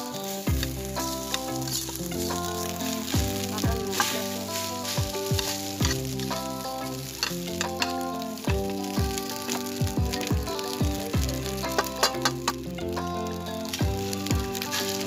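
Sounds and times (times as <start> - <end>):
metal spatula scraping wok: 0.0 - 10.8, 11.4 - 15.0
background music with kick drum: 0.0 - 15.0
fried rice sizzling in a wok: 0.0 - 15.0.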